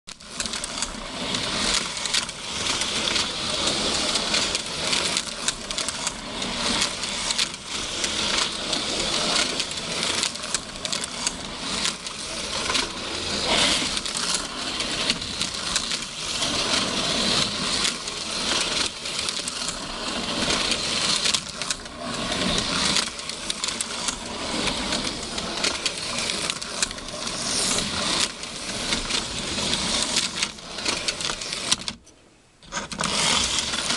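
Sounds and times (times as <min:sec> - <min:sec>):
toy cars clattering on track: 0:00.1 - 0:33.9
small electric motors whirring: 0:00.2 - 0:31.9, 0:32.8 - 0:33.9.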